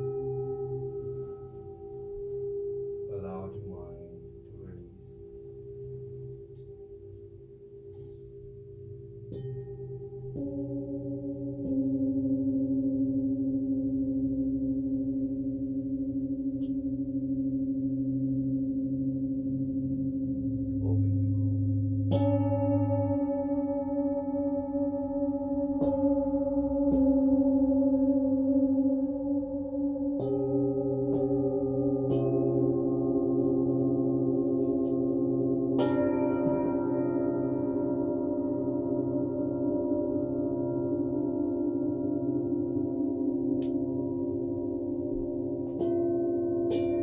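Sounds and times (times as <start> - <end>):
singing bowls ringing: 0.0 - 4.4, 5.0 - 47.0.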